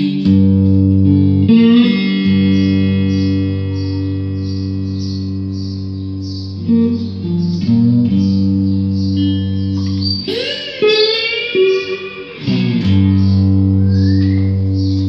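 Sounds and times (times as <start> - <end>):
slide electric guitar: 0.0 - 15.0.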